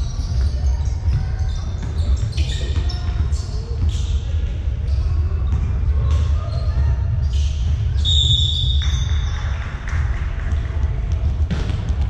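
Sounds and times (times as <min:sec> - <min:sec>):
basketball bouncing on court: 0:00.0 - 0:04.2, 0:05.4 - 0:12.0.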